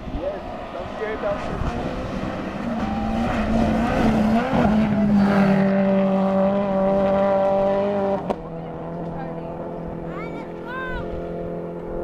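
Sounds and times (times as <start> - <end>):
car engine revving hard: 0.7 - 12.0.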